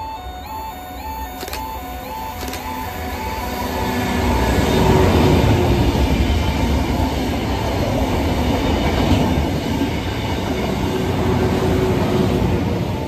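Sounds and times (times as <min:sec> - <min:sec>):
train engines and wheels rumbling: 0:00.0 - 0:13.0.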